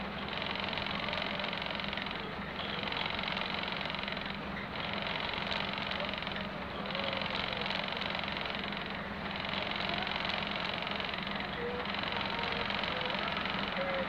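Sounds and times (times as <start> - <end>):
diesel railcar engine idling: 0.0 - 14.0.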